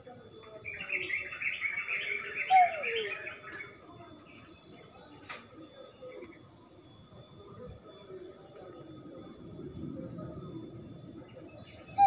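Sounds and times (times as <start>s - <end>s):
birds twittering: 0.0s - 12.0s.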